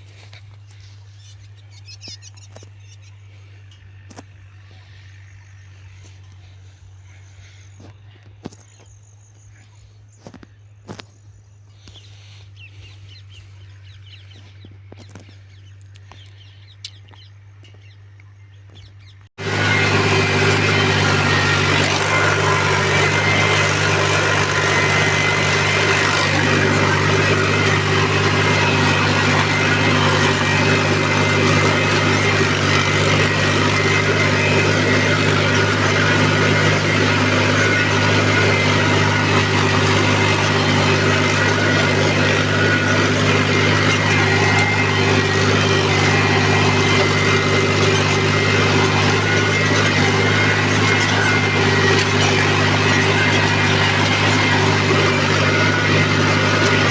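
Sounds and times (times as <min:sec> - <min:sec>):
birds chirping: 0:00.0 - 0:56.9
tractor diesel engine running: 0:00.0 - 0:56.9.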